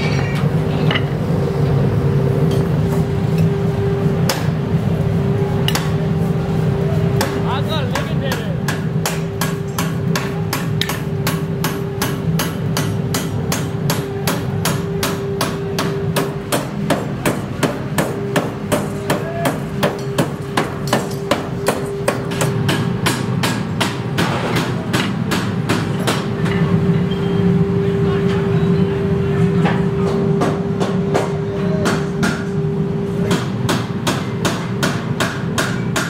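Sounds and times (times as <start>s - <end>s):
machinery hum: 0.0s - 36.0s.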